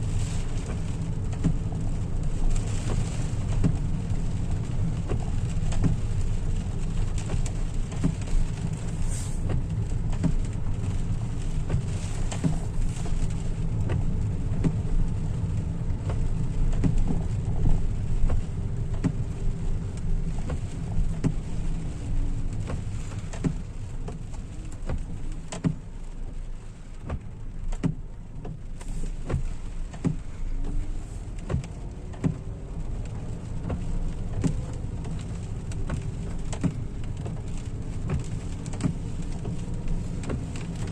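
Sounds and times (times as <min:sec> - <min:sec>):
car road and engine rumble: 0:00.0 - 0:40.9
raindrops ticking on car: 0:00.0 - 0:40.9.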